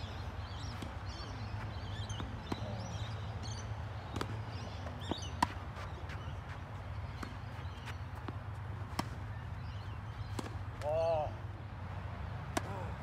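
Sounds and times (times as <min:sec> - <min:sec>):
birds chirping: 0:00.0 - 0:11.4
tennis balls bouncing on court: 0:00.2 - 0:11.2
tennis balls struck by rackets: 0:00.5 - 0:11.3, 0:12.5 - 0:12.8.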